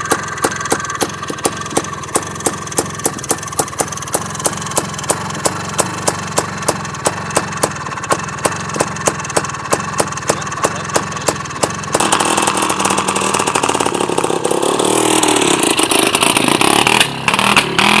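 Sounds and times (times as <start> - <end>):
motorcycle engine sputtering and popping: 0.0 - 18.0.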